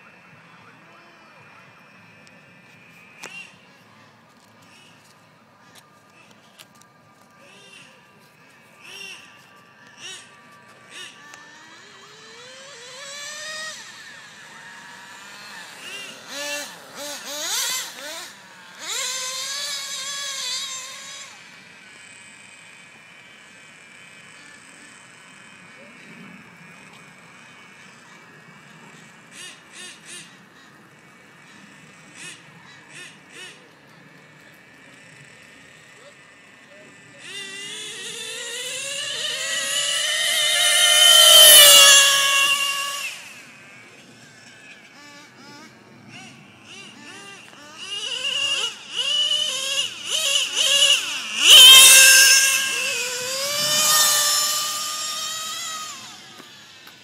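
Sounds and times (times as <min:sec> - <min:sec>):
model engines revving: 0:00.0 - 0:57.0.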